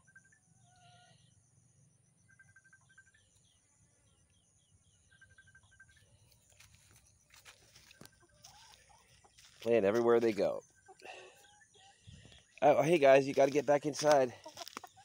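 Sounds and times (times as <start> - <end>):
distant birds chirping: 0.0 - 15.0.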